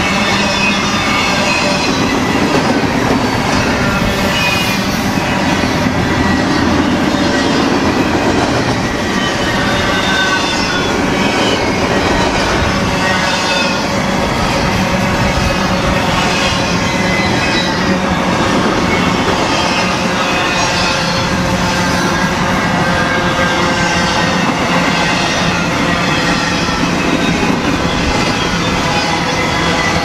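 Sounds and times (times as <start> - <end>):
train wheels clattering on rails: 0.0 - 30.0
wheel squeals: 0.0 - 30.0.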